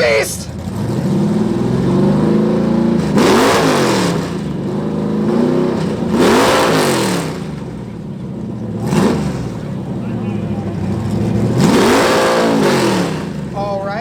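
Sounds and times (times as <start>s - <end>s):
car exhaust revving: 0.0s - 14.0s.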